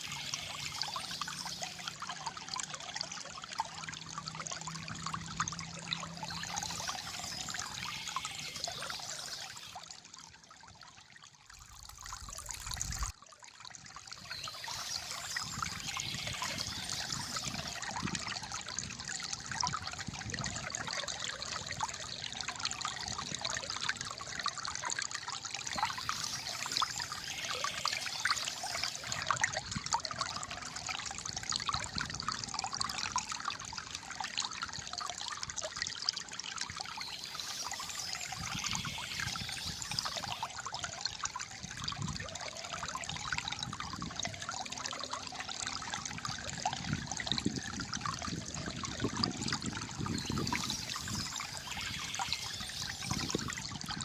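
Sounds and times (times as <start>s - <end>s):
water trickling and gurgling: 0.0s - 54.0s.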